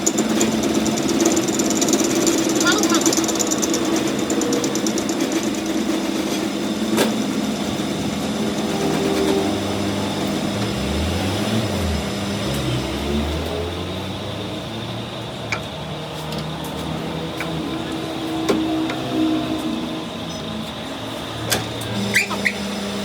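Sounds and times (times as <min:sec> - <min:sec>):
machinery motor hum: 0:00.0 - 0:23.0.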